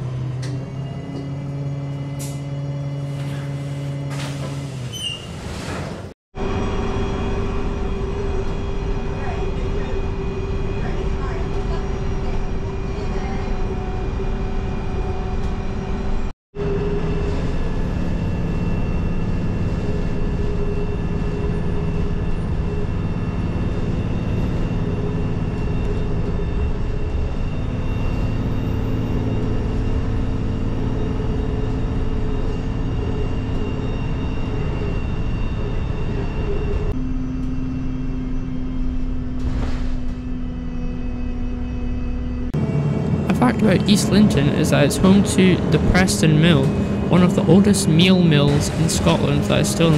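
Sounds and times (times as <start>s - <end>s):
bus engine and road noise: 0.0s - 49.9s.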